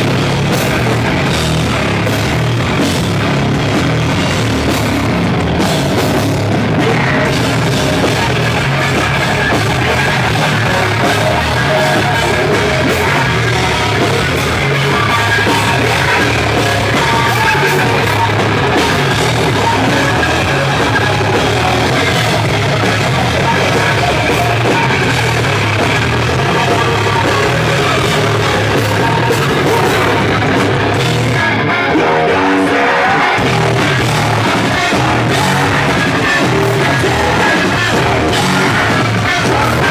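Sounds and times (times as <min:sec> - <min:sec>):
metalcore band playing: 0:00.0 - 0:39.9.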